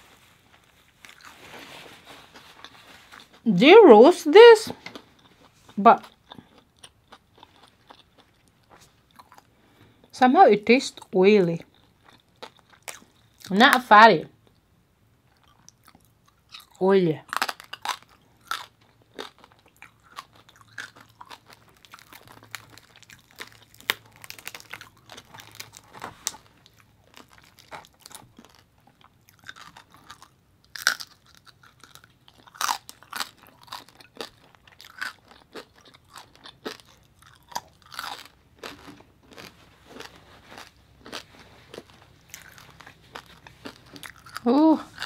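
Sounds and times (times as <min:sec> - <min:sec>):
person chewing crunchy meat: 0:00.6 - 0:03.4, 0:04.8 - 0:10.1, 0:11.6 - 0:13.5, 0:15.3 - 0:45.0.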